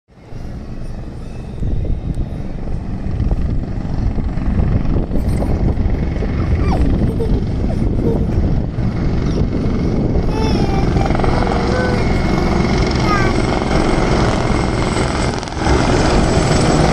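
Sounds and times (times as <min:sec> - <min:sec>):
helicopter rotor blades beating: 0:00.1 - 0:16.9.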